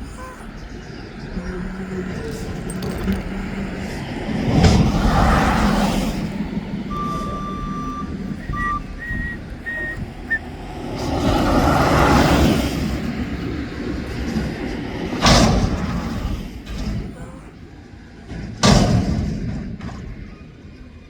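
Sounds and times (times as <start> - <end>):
garbage truck diesel engine: 0.0 - 21.0.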